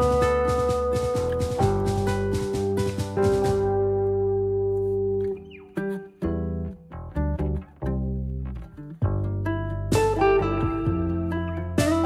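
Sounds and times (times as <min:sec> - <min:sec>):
deep bass: 0:00.0 - 0:05.4, 0:06.2 - 0:12.0
plucked string notes: 0:00.0 - 0:12.0.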